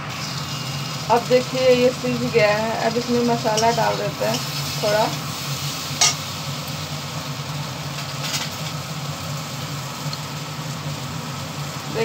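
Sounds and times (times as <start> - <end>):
food frying in oil: 0.0 - 12.0
low mechanical hum: 0.0 - 12.0.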